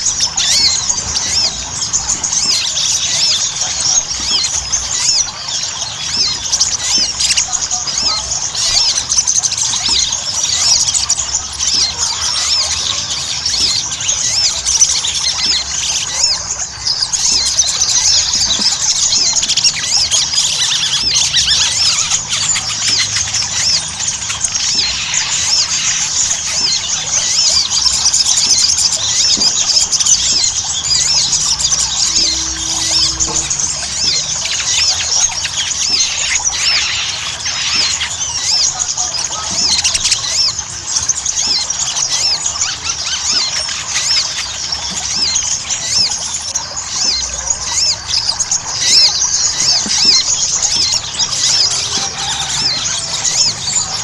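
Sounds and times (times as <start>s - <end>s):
songbird chirping rapidly: 0.0s - 54.0s.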